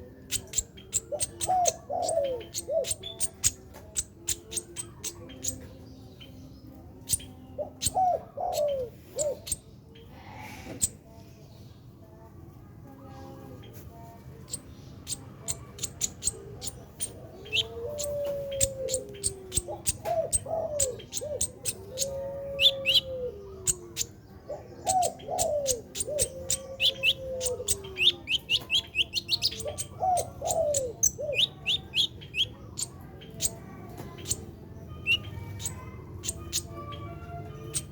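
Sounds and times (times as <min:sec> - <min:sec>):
bird chips and trills: 0:00.2 - 0:06.3, 0:07.0 - 0:09.7, 0:14.4 - 0:24.2, 0:24.8 - 0:37.9.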